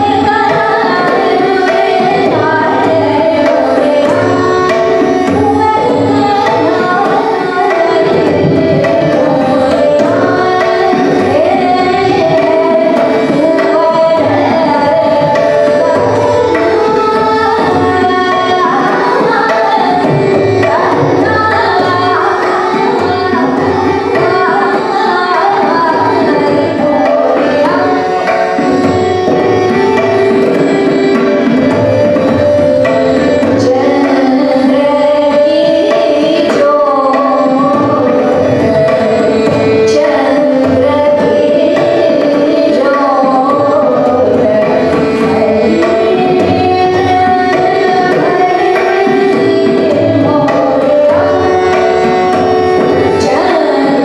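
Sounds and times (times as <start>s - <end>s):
tabla: 0.0s - 54.0s
woman singing: 0.0s - 54.0s.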